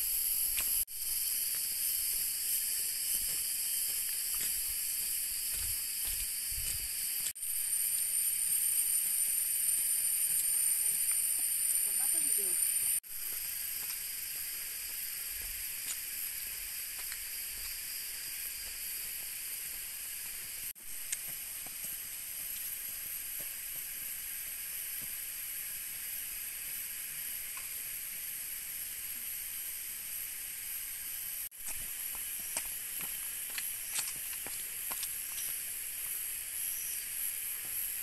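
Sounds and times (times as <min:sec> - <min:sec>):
shrill insect chorus: 0:00.0 - 0:38.0.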